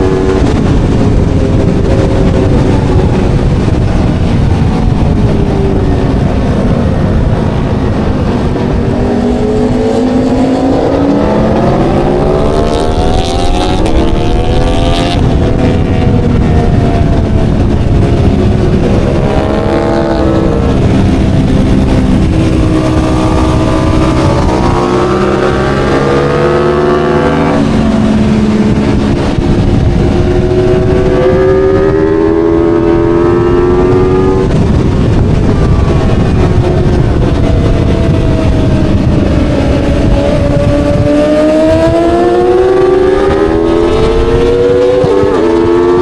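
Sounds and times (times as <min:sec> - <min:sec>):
motorcycle engine revving: 0:00.0 - 0:46.0
wind and road noise: 0:00.0 - 0:46.0.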